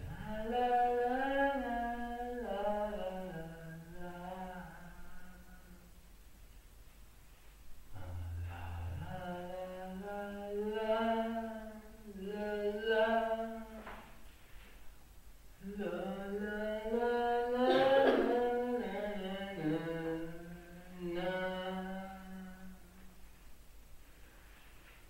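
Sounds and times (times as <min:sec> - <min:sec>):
person singing unaccompanied: 0:00.0 - 0:06.0, 0:07.9 - 0:14.3, 0:15.5 - 0:23.2.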